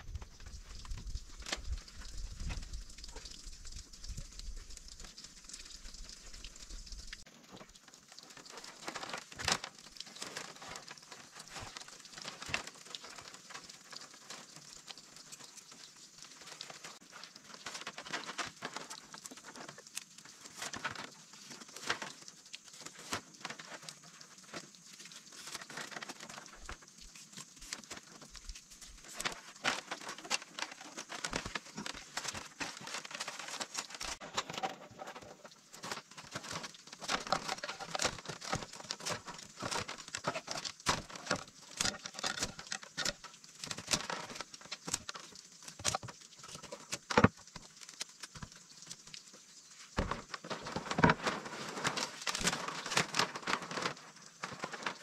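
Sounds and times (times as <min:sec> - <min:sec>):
dry material rustling and crackling: 0:00.0 - 0:55.0.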